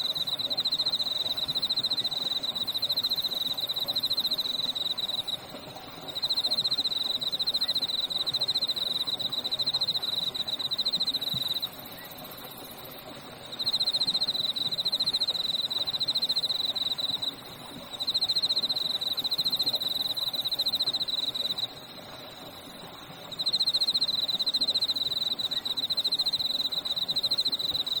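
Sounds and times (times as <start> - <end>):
frogs calling: 0.0 - 5.5, 6.1 - 12.9, 13.5 - 28.0
babbling stream: 0.0 - 28.0.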